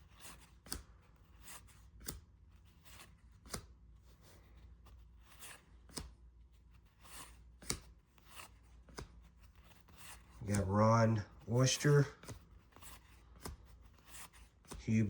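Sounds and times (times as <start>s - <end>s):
cards sliding: 0.1s - 10.9s, 11.8s - 15.0s.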